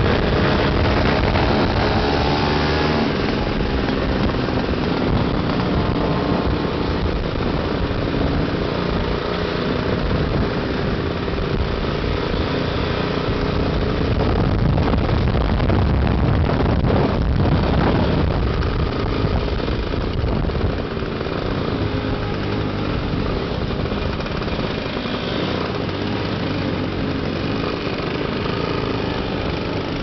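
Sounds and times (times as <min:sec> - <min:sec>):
road and wind noise: 0:00.0 - 0:30.0
scooter engines running: 0:00.0 - 0:30.0.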